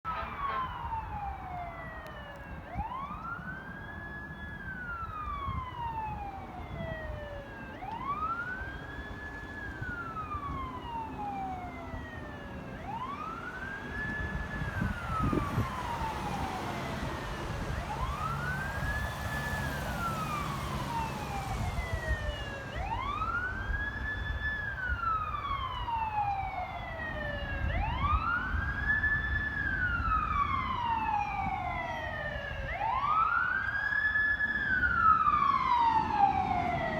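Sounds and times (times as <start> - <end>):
fire truck siren wailing: 0.0 - 36.9
low traffic rumble: 0.1 - 36.9.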